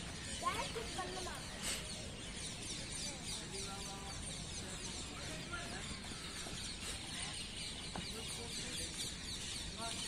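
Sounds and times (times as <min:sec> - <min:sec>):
faint distant voices: 0:00.0 - 0:10.0.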